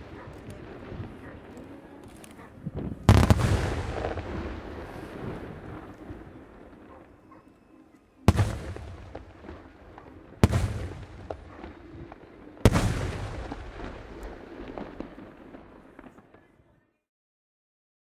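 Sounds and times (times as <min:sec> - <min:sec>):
firework bursts with rolling echo: 0:00.0 - 0:16.5.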